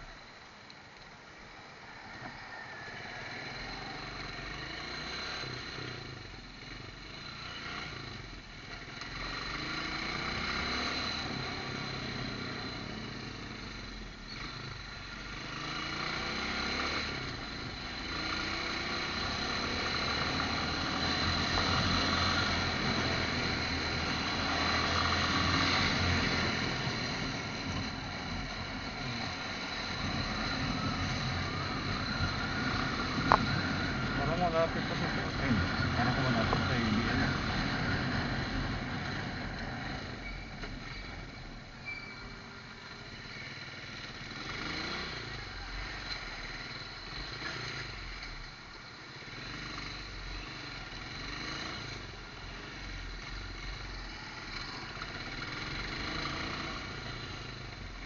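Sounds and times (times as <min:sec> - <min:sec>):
road and tyre noise: 0:00.0 - 0:58.0
motorcycle engine: 0:02.8 - 0:58.0.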